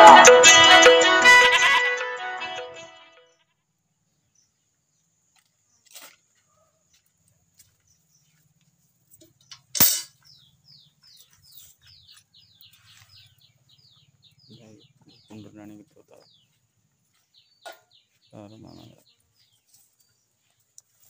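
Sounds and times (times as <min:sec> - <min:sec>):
bird chirping: 0:03.2 - 0:21.0.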